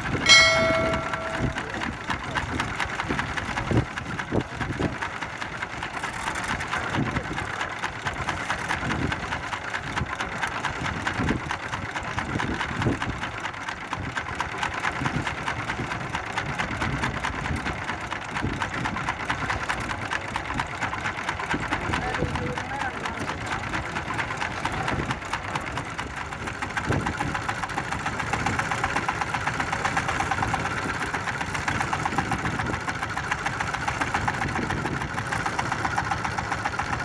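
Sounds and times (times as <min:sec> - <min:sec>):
boat engine chugging: 0:00.0 - 0:37.0.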